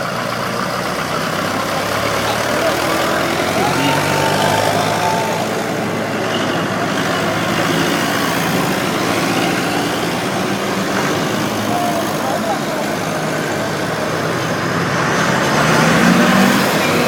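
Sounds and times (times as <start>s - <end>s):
tractor engines running: 0.0s - 17.0s.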